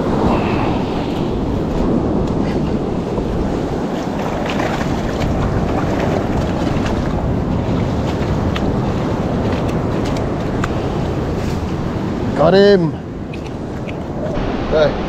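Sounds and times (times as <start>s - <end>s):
surf breaking on beach: 0.0s - 12.9s
wind buffeting microphone: 0.0s - 15.0s.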